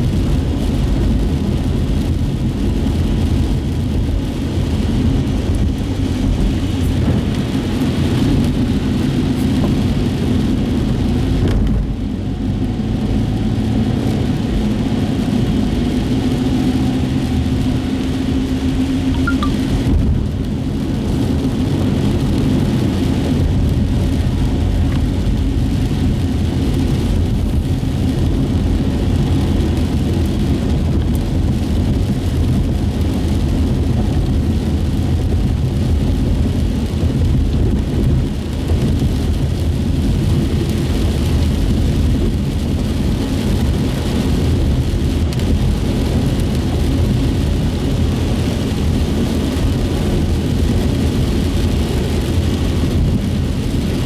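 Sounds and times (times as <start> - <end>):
engine and tyres rumbling: 0.0 - 54.0.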